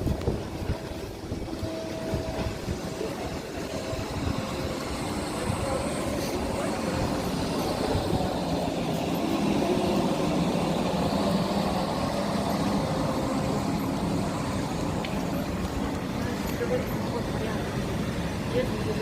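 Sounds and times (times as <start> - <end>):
electric train rumble: 0.0 - 19.0.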